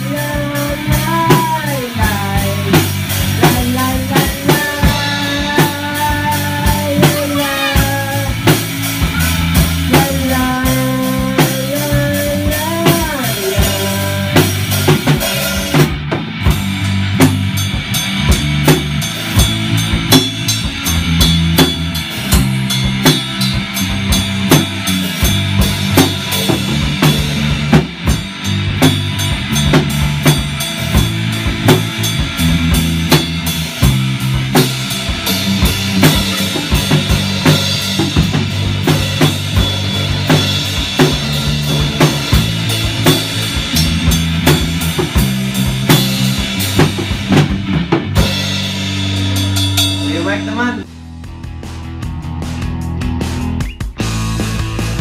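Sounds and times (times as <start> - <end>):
drum kit beat: 0.0 - 55.0
electric bass line: 0.0 - 55.0
electric guitar playing: 0.0 - 55.0.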